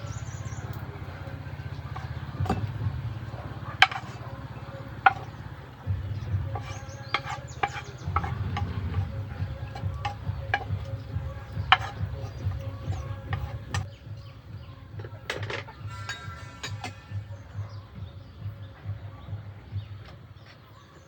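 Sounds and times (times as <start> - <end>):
utensils clinking on pots: 0.0 - 13.9, 14.9 - 18.1.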